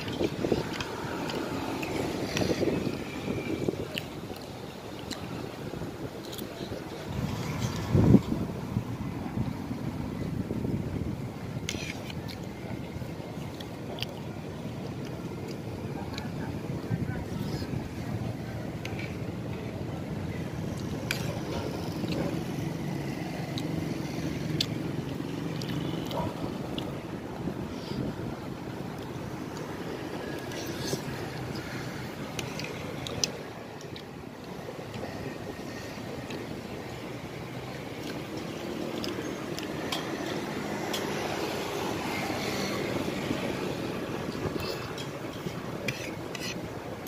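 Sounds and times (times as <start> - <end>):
street traffic hum: 0.0 - 47.0.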